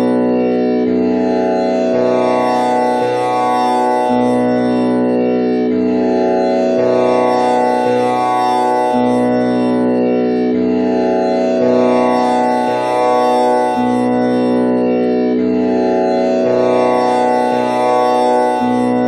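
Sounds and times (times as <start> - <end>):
tanpura drone: 0.0 - 19.0.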